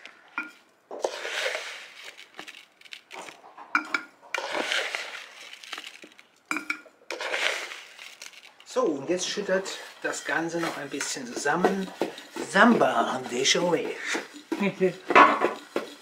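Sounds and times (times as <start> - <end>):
sugar pouring into jar: 0.4 - 16.0
container clinking on glass jar: 1.7 - 16.0.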